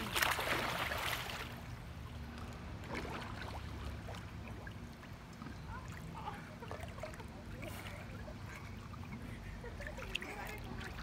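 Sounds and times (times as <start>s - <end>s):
low steady rumble: 0.0s - 11.0s
pool water lapping: 0.0s - 11.0s
small splashes and drips: 0.0s - 11.0s.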